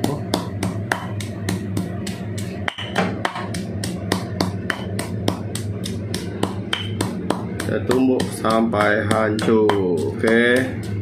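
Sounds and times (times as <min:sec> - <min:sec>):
stone pestle pounding in mortar: 0:00.0 - 0:11.0.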